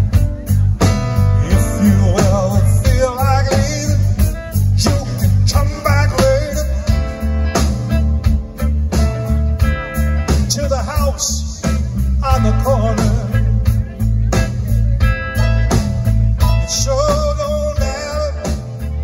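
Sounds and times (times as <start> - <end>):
bass guitar: 0.0 - 19.0
drums with steady beat: 0.0 - 19.0
electric guitars: 0.0 - 19.0.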